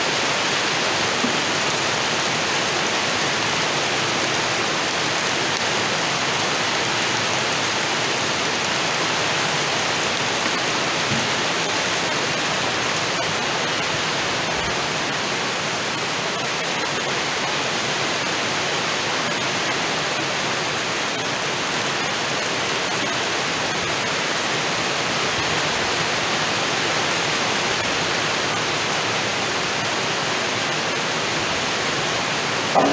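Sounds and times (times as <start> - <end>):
heavy rain falling: 0.0 - 32.9
water pouring off a roof: 0.0 - 32.9.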